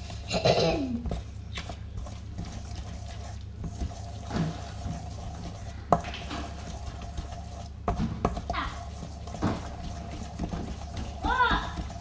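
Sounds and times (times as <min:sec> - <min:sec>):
spatula scraping metal bowl: 0:01.0 - 0:12.0.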